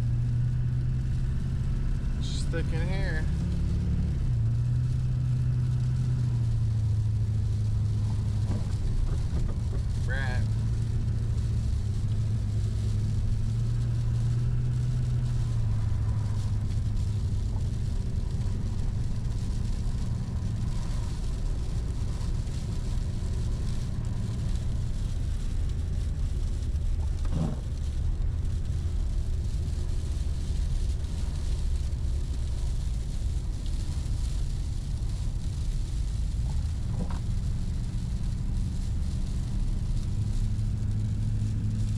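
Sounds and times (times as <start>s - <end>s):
road noise: 0.0s - 41.9s
engine drone inside cab: 4.1s - 41.9s.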